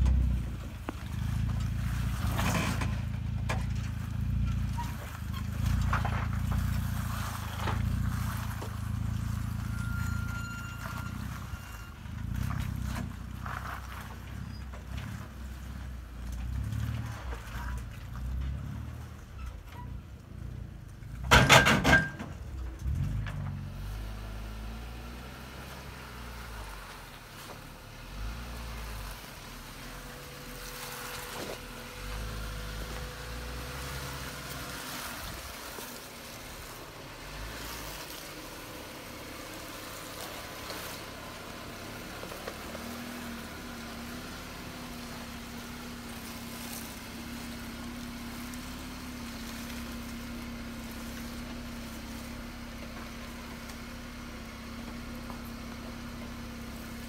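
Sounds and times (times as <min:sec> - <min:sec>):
off-road vehicle engine at low revs: 0:00.0 - 0:57.0.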